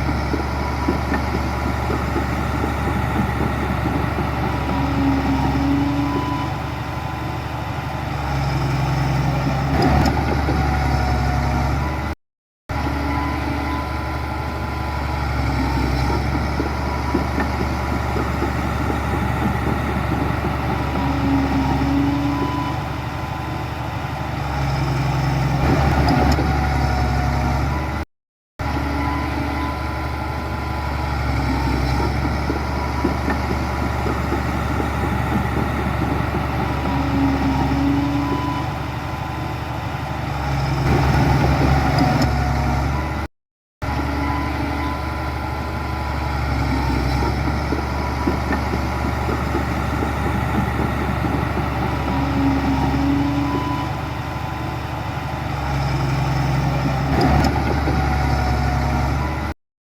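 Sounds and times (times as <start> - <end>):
heavy diesel engine running: 0.0 - 28.0, 28.6 - 59.6.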